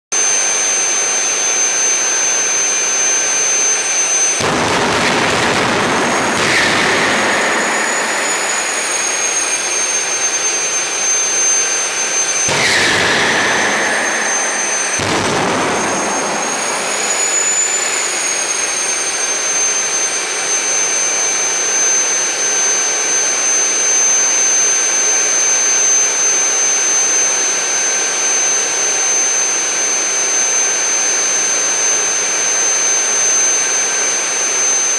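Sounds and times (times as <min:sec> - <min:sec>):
jet engine turbine whine and roar: 0:00.2 - 0:34.9.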